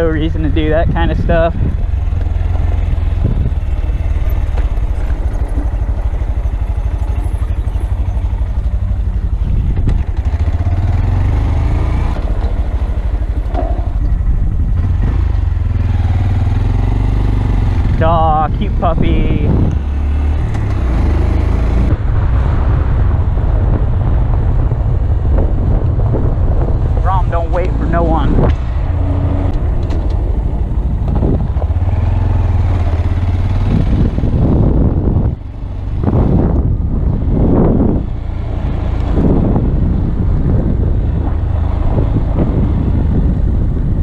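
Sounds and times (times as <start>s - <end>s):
low wind rumble: 0.0s - 44.0s
motorcycle engine running: 0.0s - 44.0s.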